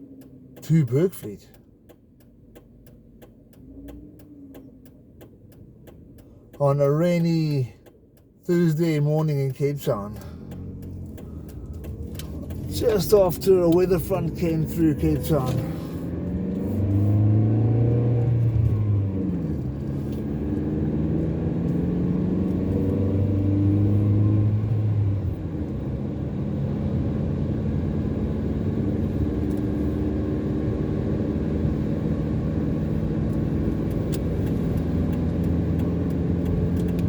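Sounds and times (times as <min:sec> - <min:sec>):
car engine accelerating: 0:00.0 - 0:37.0
road noise: 0:00.0 - 0:37.0.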